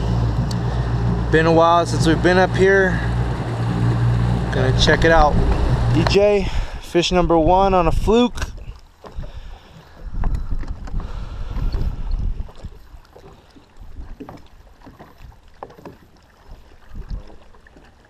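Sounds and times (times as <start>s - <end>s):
wind buffeting microphone: 0.0s - 14.3s, 16.7s - 17.5s
water lapping against hull: 0.0s - 18.0s.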